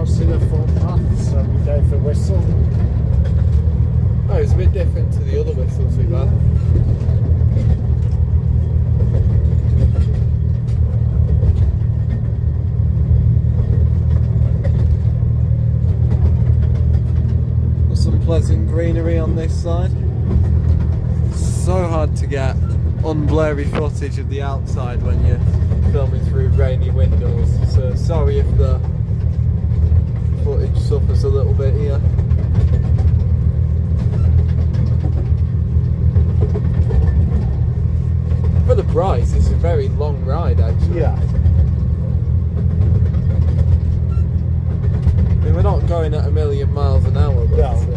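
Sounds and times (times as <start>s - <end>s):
miniature train rumbling: 0.0s - 47.9s.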